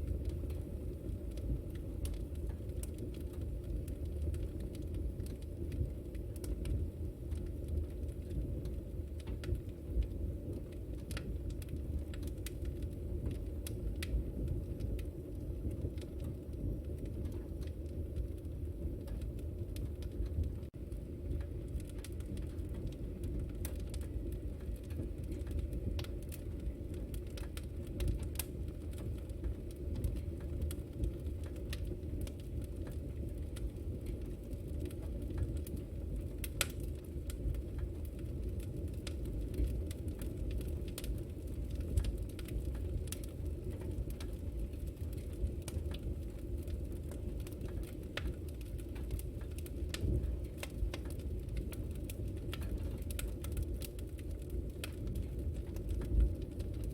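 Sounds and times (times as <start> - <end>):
fire pops and snaps: 0.0 - 56.9
wood fire crackling: 0.0 - 56.9.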